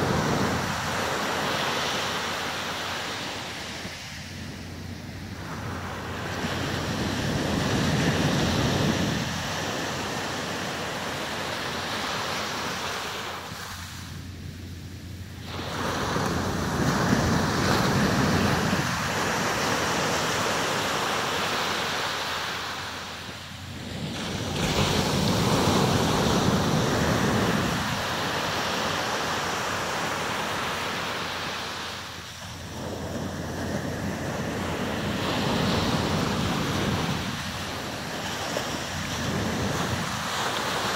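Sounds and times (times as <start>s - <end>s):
surf breaking on a beach: 0.0s - 40.9s.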